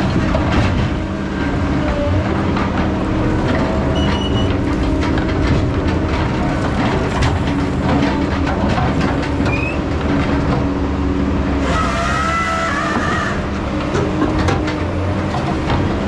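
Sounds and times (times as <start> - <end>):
metallic clanks and rattles: 0.0 - 10.8, 13.1 - 16.0
diesel engine drone: 0.0 - 16.0.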